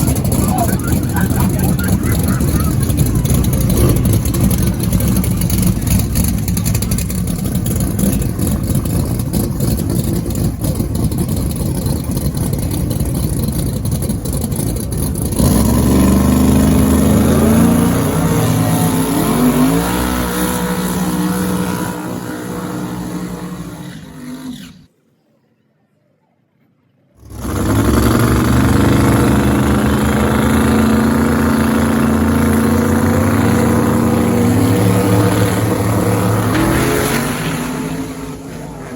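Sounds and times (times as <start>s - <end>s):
drag-race car engine rumbling: 0.0s - 24.9s, 27.2s - 38.9s
engine revving up: 0.0s - 24.9s, 27.2s - 38.9s.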